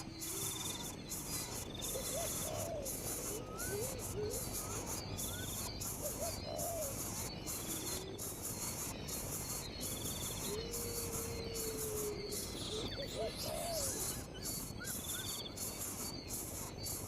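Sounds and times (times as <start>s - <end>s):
insect chorus pulsing: 0.0s - 17.0s
low bird calls: 0.0s - 17.0s.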